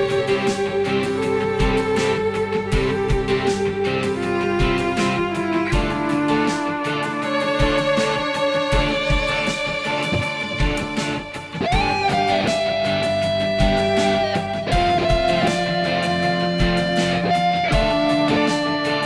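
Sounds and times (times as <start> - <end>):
steady low beat: 0.0 - 6.8, 7.4 - 18.5
guitar notes with bending pitch: 0.0 - 19.0.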